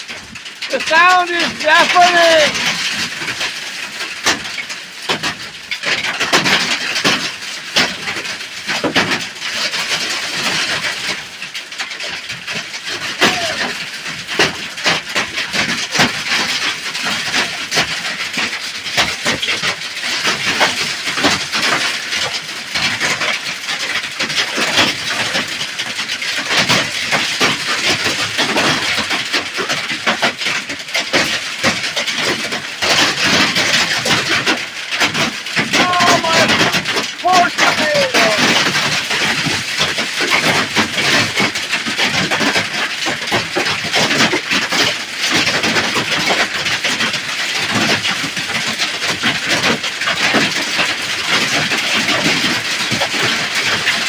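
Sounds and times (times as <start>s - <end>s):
hail clattering on hut: 0.0s - 54.0s.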